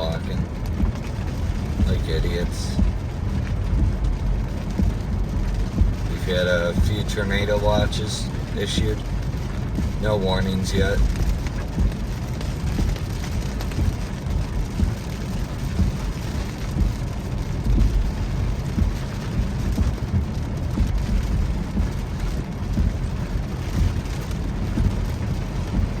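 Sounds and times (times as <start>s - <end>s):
raindrops tapping on car roof: 0.0s - 26.0s
road and engine rumble: 0.0s - 26.0s.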